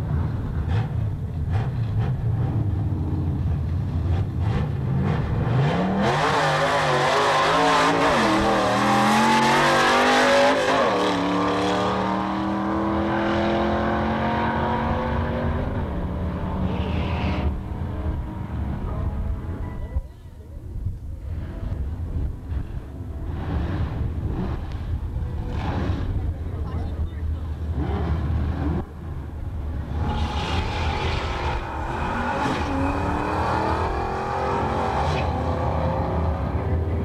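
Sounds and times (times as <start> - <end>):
drag car engine revving: 0.3 - 18.7, 23.2 - 37.0.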